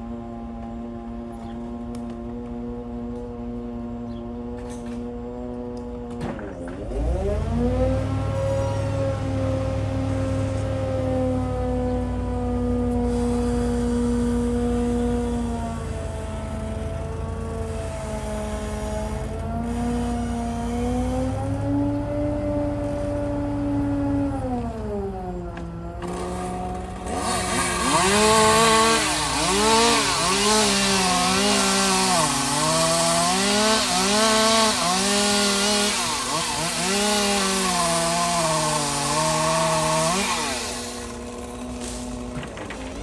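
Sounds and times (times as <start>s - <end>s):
chainsaw cutting wood: 0.2s - 43.0s
chainsaw engine running: 6.8s - 43.0s.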